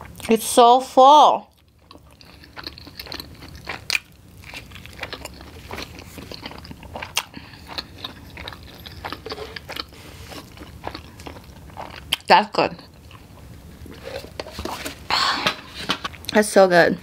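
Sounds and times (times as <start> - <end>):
person chewing food: 1.5 - 16.3.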